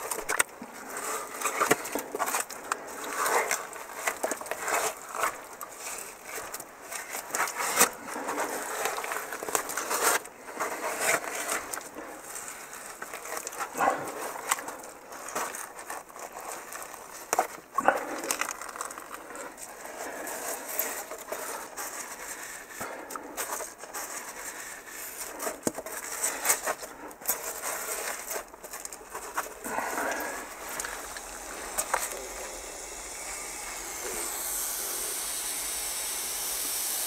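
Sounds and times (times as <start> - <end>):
hands squelching in wet mud: 0.0 - 35.3.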